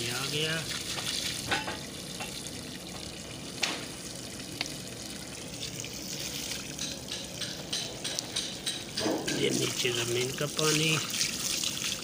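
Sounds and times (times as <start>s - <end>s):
water splashing onto paving stones: 0.0s - 12.0s.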